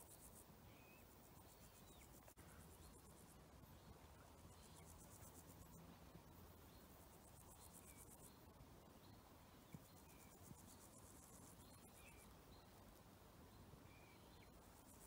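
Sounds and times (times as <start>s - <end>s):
faint insects chirring: 0.0s - 15.0s
soft bird chirps: 0.0s - 15.0s.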